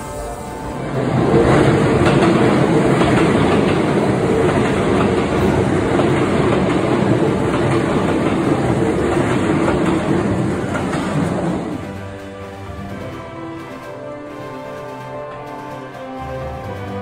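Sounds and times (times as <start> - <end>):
steel wheels on rails: 0.0 - 17.0.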